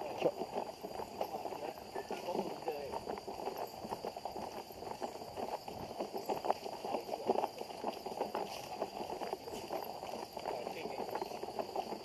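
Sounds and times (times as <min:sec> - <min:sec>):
footsteps of people walking: 0:00.0 - 0:12.0.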